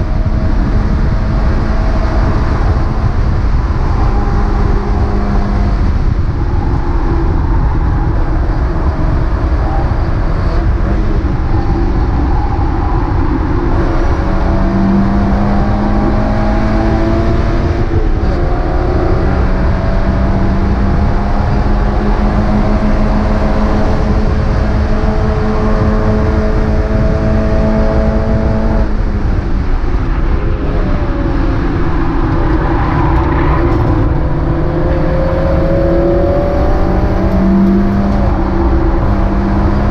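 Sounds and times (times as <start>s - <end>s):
race car engine revving: 0.0s - 39.9s
road and wind noise: 0.0s - 39.9s.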